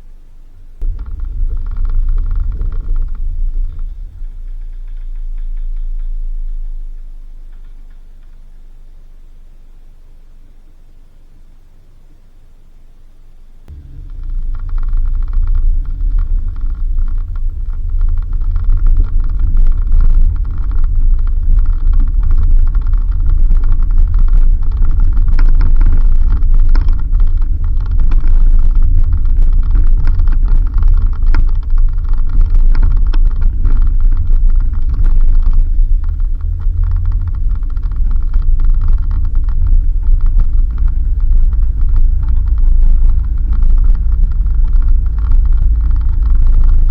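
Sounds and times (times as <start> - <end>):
engine and tyres rumbling: 0.0 - 46.9
rattles and knocks: 0.8 - 9.4, 13.7 - 46.9.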